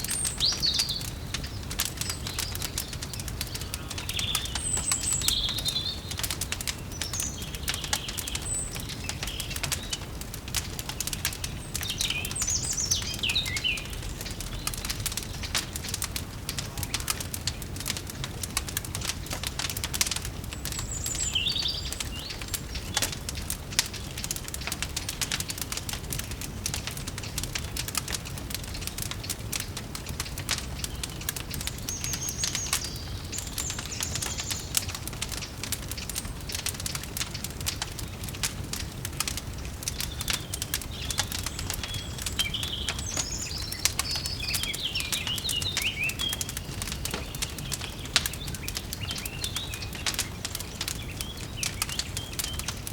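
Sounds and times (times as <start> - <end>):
birds chirping: 0.0 - 52.9
wood fire crackling: 0.0 - 52.9.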